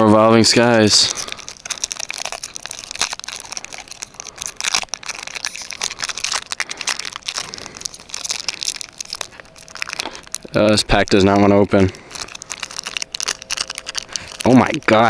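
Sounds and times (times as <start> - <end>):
foil wrapper crinkling: 0.0 - 15.0.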